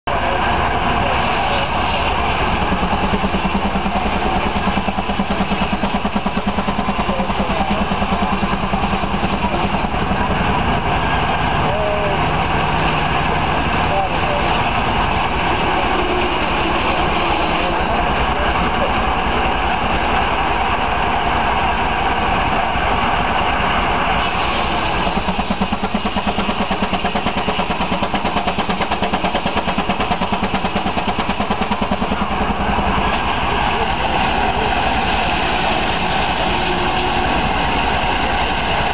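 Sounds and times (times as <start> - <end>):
steam engine exhaust chuffing: 0.1 - 38.9.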